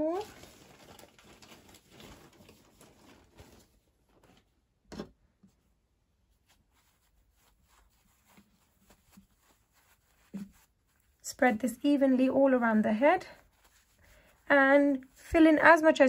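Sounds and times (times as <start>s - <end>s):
hands rustling fabric: 0.0s - 15.8s.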